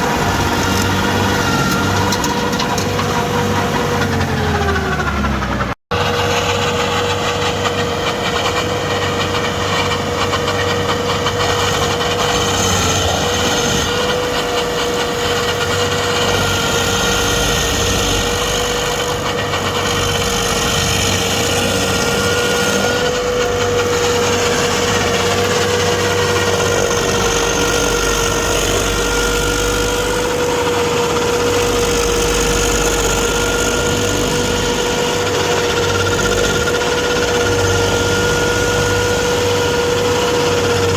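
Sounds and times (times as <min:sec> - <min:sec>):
steady machine whine: 0:00.0 - 0:40.9
stump grinder engine running: 0:00.0 - 0:40.9.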